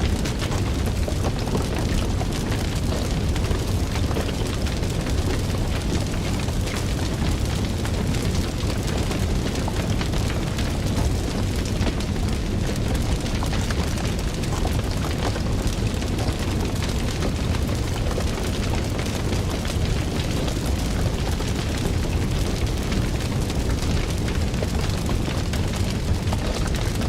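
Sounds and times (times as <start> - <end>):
fire crackling: 0.0 - 27.0.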